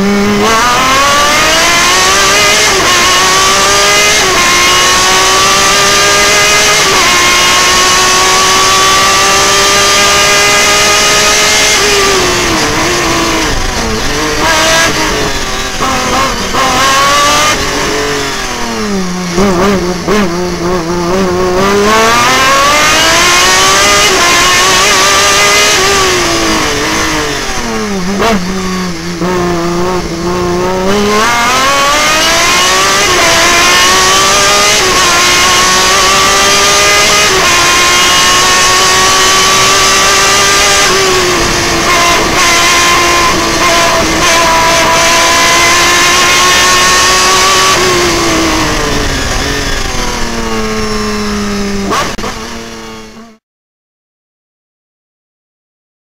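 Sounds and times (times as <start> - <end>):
race car engine revving: 0.0 - 53.4.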